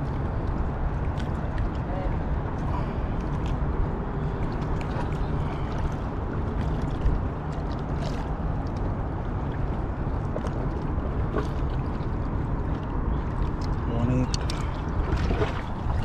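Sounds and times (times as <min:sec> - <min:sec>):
river water: 0:00.0 - 0:16.0
wind: 0:00.0 - 0:16.0.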